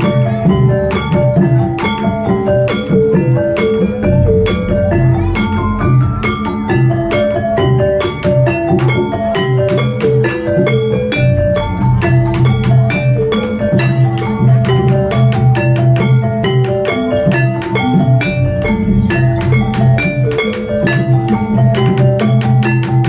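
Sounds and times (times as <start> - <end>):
drumming: 0.0 - 23.0
gamelan music: 0.0 - 23.0.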